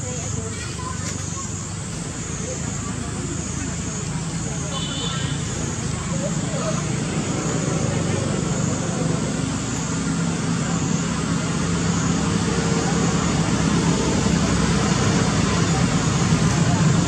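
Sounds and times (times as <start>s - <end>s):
constant rushing noise: 0.0s - 17.0s
engine hum: 0.0s - 17.0s.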